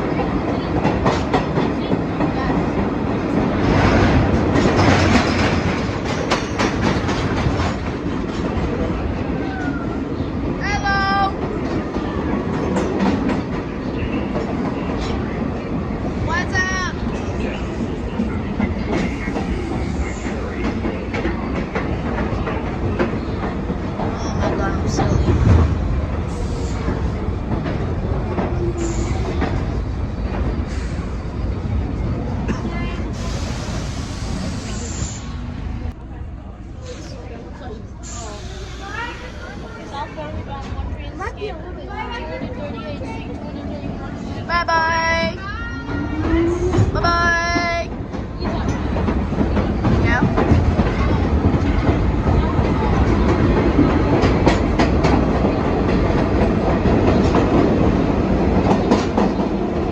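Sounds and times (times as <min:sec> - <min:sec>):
subway train rumbling on rails: 0:00.0 - 0:59.9.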